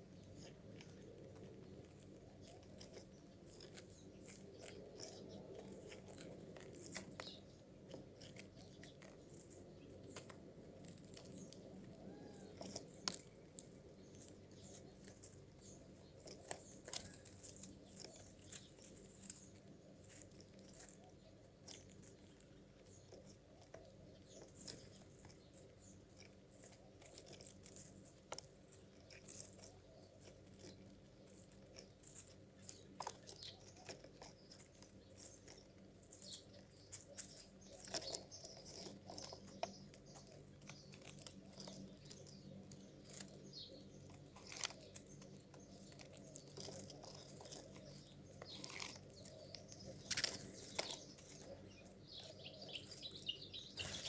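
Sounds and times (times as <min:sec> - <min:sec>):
bird crunching and clicking: 0:00.0 - 0:54.0
low steady hum: 0:00.0 - 0:54.0.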